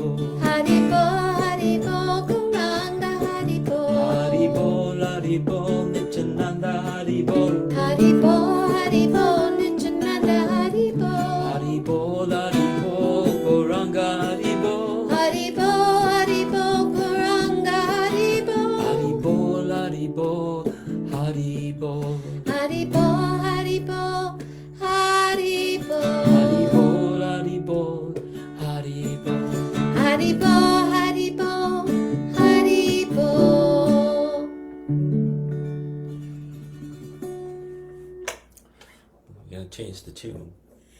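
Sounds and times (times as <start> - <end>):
devotional mantra singing: 0.0 - 34.5
held instrumental notes: 0.0 - 38.8.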